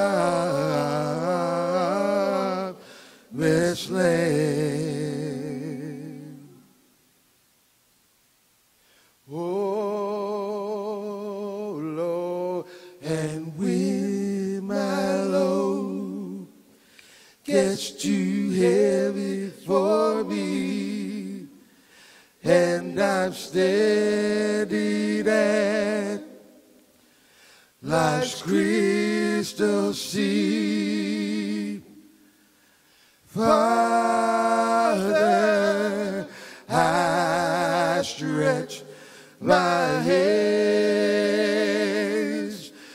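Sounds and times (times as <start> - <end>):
men singing a cappella: 0.0 - 6.7, 9.3 - 26.6, 27.8 - 32.3, 32.9 - 42.9.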